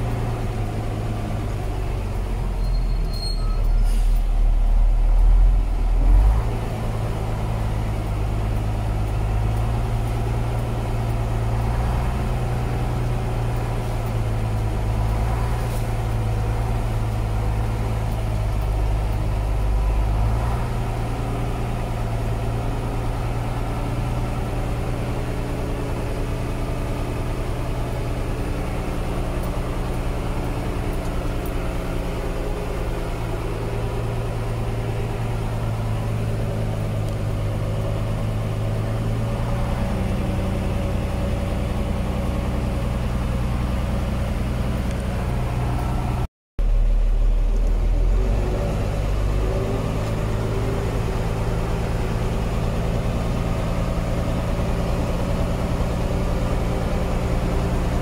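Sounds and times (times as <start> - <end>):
old tractor engine running: 0.0 - 58.0.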